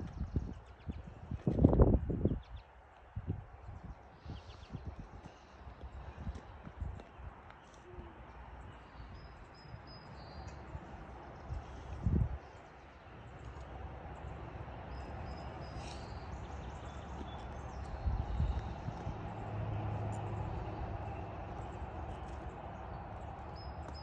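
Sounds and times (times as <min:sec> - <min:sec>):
wind rumble on microphone: 0:00.0 - 0:13.6, 0:16.1 - 0:24.0.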